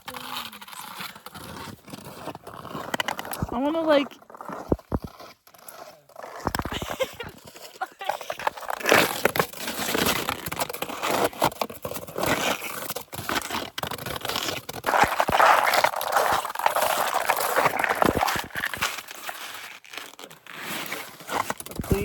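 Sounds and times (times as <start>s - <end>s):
ice crunching and cracking: 0.0s - 22.0s.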